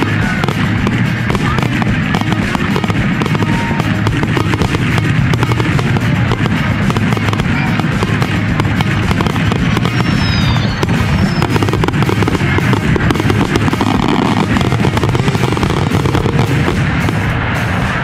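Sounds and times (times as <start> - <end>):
firework whistles: 0.0 - 18.0
fireworks bangs and crackles: 0.0 - 18.0.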